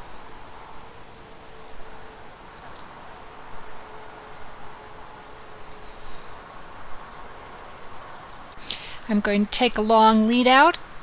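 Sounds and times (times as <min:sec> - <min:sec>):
crickets chirping: 0:00.0 - 0:09.1
faint steady hum: 0:00.0 - 0:11.0.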